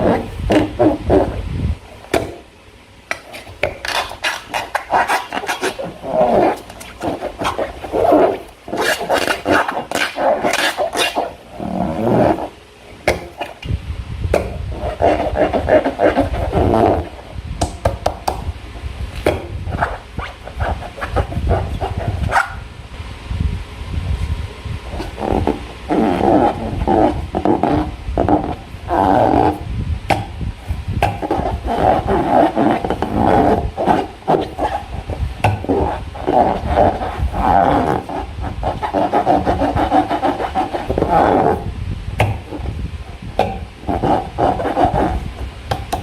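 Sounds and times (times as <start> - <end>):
rubber balloon squeaking: 0.0 - 2.5, 3.1 - 13.8, 14.4 - 18.5, 19.2 - 22.8, 24.9 - 46.0.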